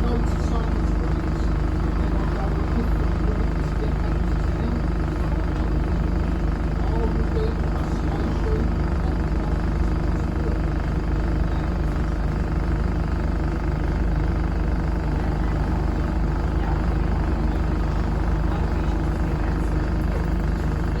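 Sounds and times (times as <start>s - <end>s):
bus engine hum: 0.0s - 21.0s.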